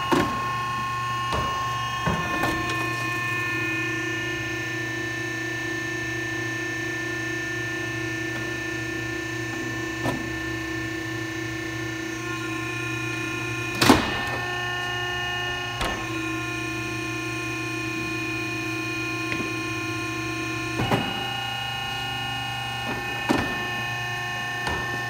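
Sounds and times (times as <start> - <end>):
electric-hydraulic whine: 0.0 - 25.0.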